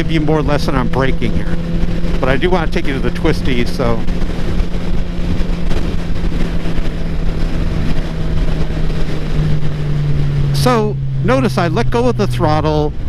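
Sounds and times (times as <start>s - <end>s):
motorcycle engine running: 0.0s - 13.0s
wind noise: 0.0s - 13.0s.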